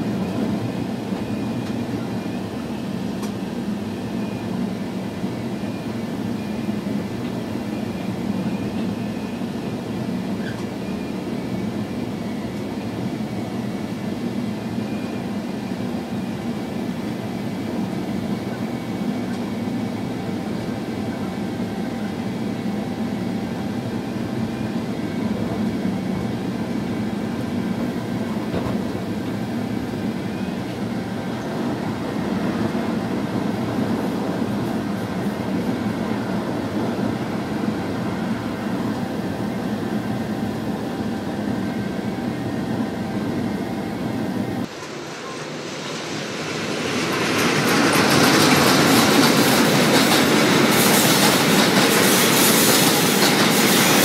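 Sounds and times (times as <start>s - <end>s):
freight train rolling past: 0.0s - 54.0s
train rumbling along line: 0.0s - 54.0s.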